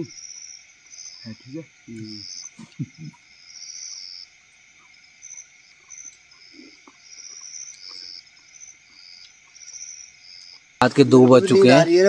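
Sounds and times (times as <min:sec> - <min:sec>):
crickets trilling chorus: 0:00.0 - 0:12.0
higher-pitched insect trill: 0:00.0 - 0:12.0.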